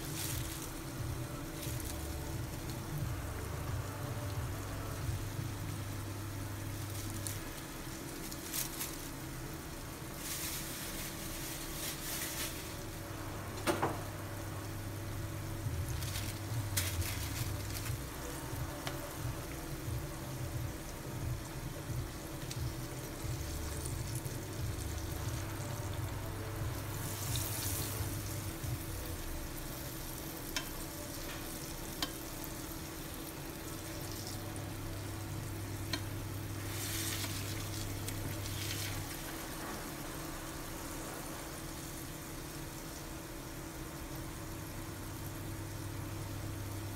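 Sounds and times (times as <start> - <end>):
crabs frying in oil: 0.0 - 46.9
steady low hum: 0.0 - 46.9.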